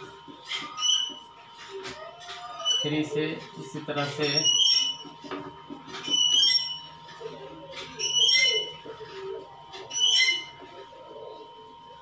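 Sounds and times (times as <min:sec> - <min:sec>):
marker squeaking on whiteboard: 0:00.0 - 0:11.1.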